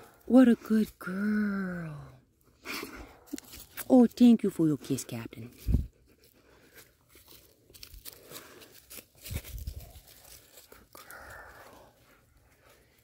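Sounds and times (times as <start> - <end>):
faint rustling and crunching: 2.4 - 13.0.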